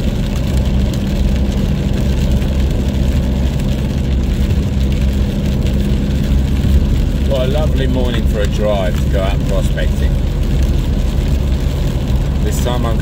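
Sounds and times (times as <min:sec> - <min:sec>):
engine hum inside vehicle: 0:00.0 - 0:13.0
tyres rushing on wet road: 0:00.0 - 0:13.0.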